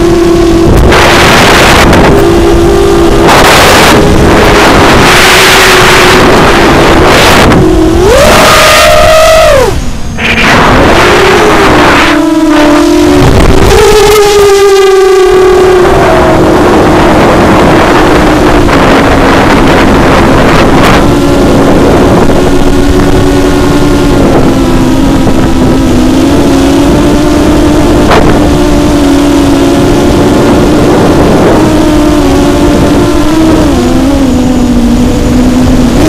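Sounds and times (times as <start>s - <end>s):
quadcopter motors whining: 0.0s - 36.0s
rush of air noise: 0.0s - 36.0s.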